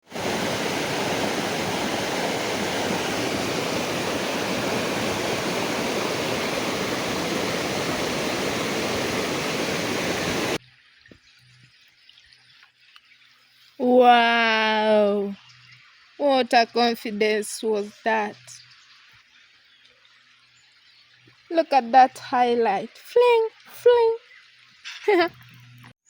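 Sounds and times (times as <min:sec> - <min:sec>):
rushing water: 0:00.0 - 0:11.3, 0:13.7 - 0:25.8.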